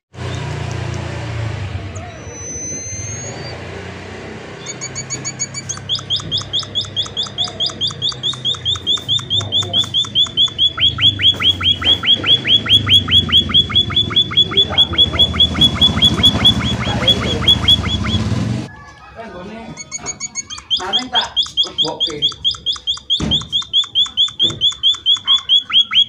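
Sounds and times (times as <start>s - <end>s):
finch calling sharp notes: 1.9s - 3.6s, 4.6s - 18.4s, 19.8s - 26.0s.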